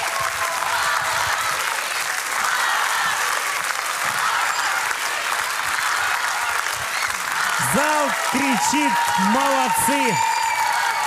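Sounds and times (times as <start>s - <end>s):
audience applauding: 0.0s - 11.0s
people cheering: 0.0s - 11.0s.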